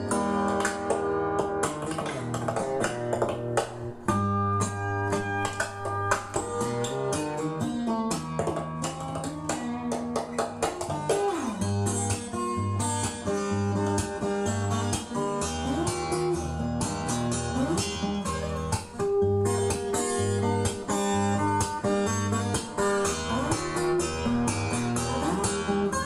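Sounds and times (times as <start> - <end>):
guitar music from vinyl record: 0.0 - 26.0
sliding guitar notes: 0.0 - 26.0.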